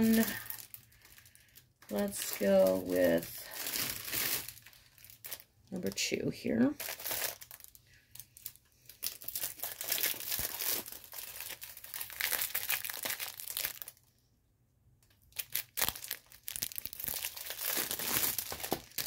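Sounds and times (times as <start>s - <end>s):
plastic packaging crinkling: 0.0s - 14.0s, 15.1s - 19.0s.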